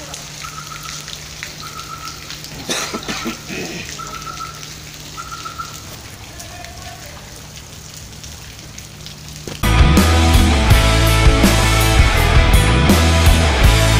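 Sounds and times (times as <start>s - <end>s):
steady rain on wet ground: 0.0s - 13.9s.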